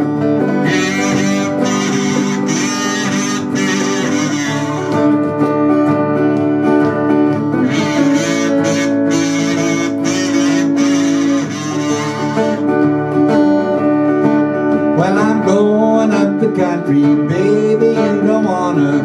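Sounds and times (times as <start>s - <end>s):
guitars playing country-blues: 0.0s - 19.0s.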